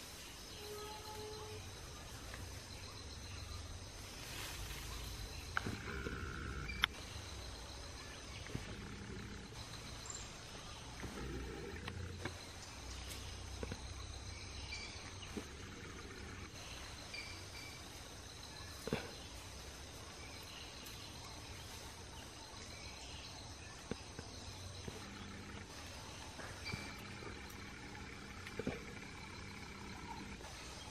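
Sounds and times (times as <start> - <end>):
low forest hiss and rumble: 0.0 - 30.9.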